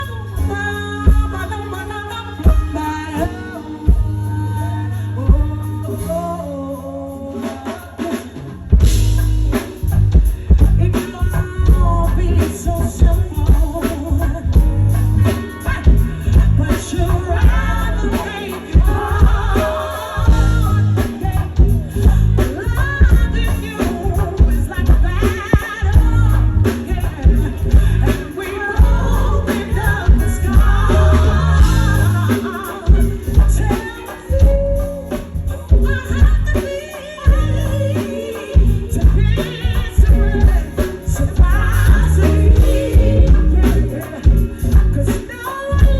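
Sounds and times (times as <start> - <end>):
band playing: 0.0 - 45.9
bass and drums beat: 0.0 - 45.9
woman singing: 0.0 - 45.9.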